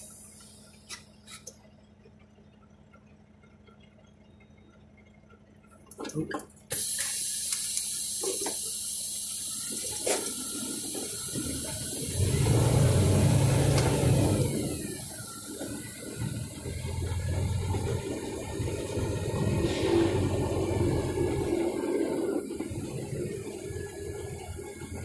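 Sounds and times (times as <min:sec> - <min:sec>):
diesel engine rumble: 0:00.0 - 0:25.0.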